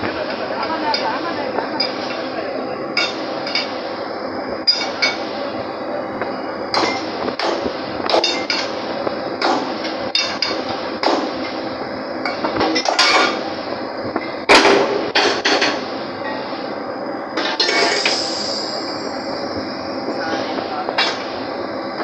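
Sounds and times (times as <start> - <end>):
steady machinery noise: 0.0 - 22.0.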